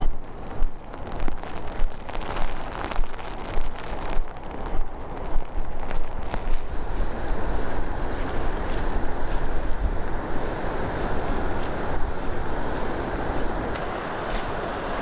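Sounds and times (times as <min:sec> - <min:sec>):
footsteps crunching: 0:00.0 - 0:15.0
wind buffeting microphone: 0:00.0 - 0:15.0.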